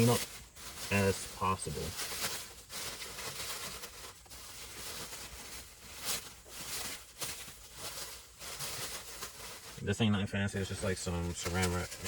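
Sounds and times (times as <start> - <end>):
plastic wrap rustling and crinkling: 0.0 - 12.0.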